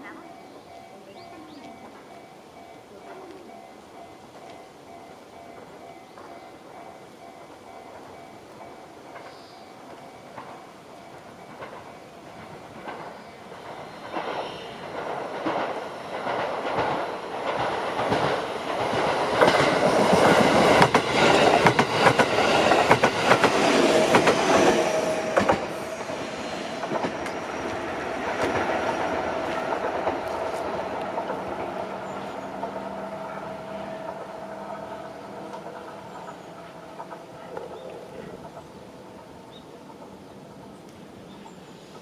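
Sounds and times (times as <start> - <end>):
train wheels clicking over rail joints: 4.0 - 33.2, 34.0 - 41.0.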